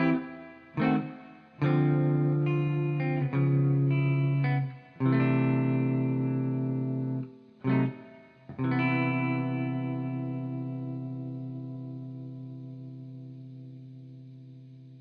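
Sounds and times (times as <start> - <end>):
guitar chords ringing out: 0.0 - 15.0.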